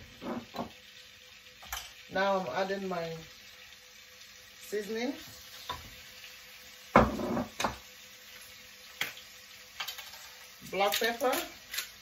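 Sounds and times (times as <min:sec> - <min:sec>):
faint sizzling: 0:00.0 - 0:12.0.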